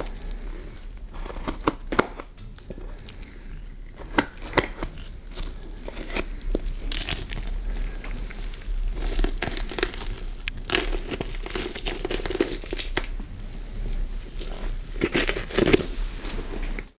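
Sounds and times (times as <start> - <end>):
skin tearing and crinkling: 0.0 - 13.2, 13.8 - 16.0.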